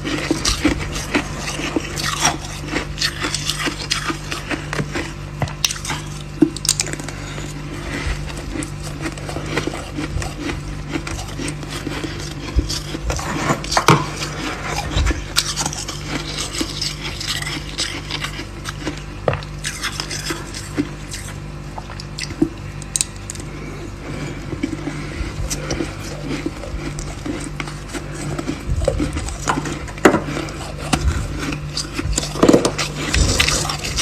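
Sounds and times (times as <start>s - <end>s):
freezer frost scraping and crunching: 0.0s - 34.0s
steady low hum: 0.0s - 34.0s.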